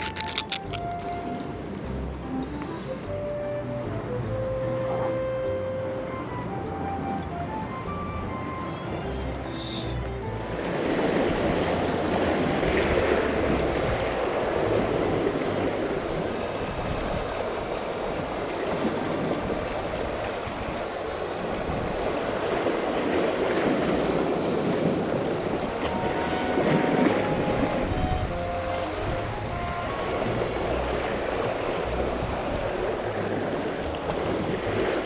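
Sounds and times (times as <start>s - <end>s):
sea waves washing around breakwater: 0.0s - 35.0s.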